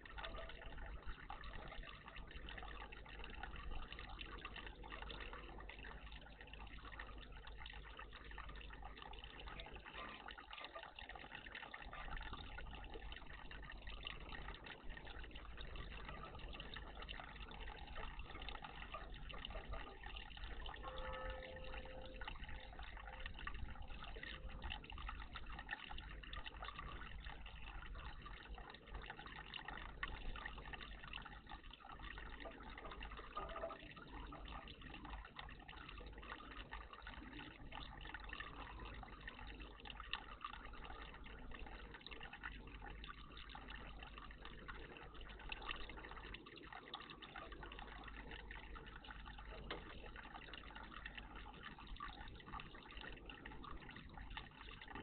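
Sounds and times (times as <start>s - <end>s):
water trickling in bird bath: 0.0s - 55.0s.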